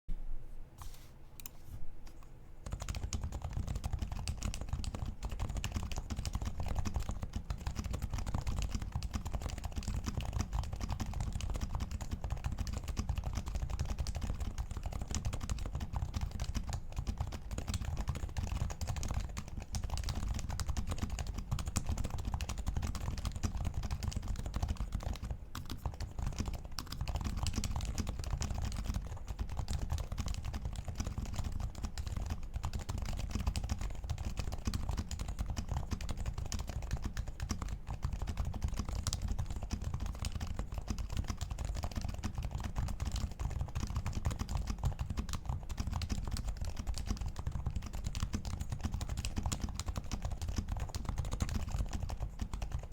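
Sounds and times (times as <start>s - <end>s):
keyboard typing: 0.8s - 52.9s.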